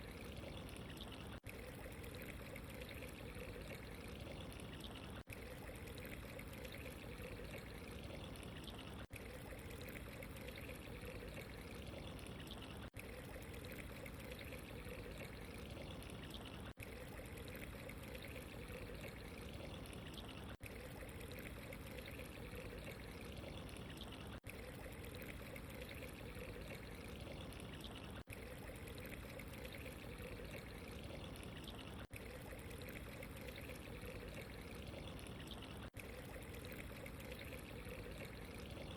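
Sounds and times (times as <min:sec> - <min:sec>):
water trickling and pouring: 0:00.0 - 0:38.9.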